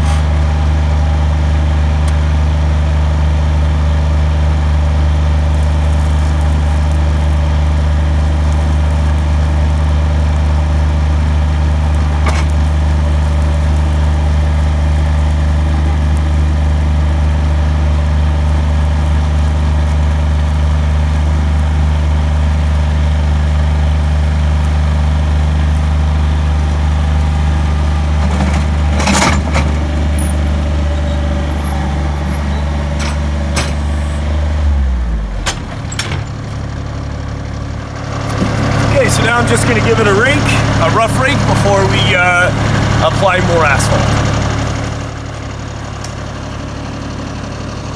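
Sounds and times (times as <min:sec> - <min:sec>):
heavy equipment engine running: 0:00.0 - 0:47.9.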